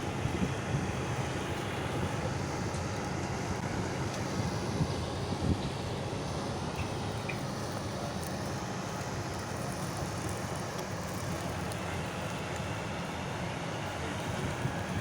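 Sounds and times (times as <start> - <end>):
heavy diesel farm machinery running: 0.0 - 15.0.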